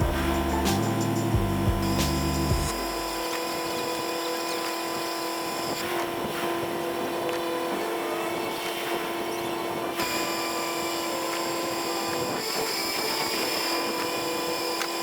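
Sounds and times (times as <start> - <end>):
constant whine: 0.0 - 15.0.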